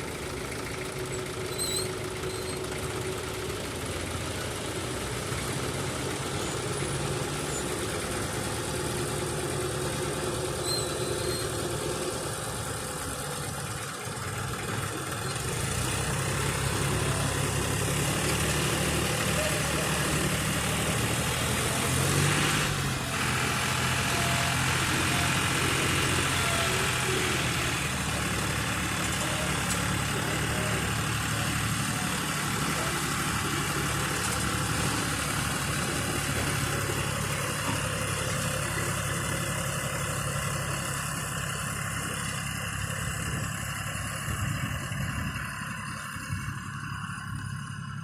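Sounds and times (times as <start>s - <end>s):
heavy vehicle engine running: 0.0s - 48.0s.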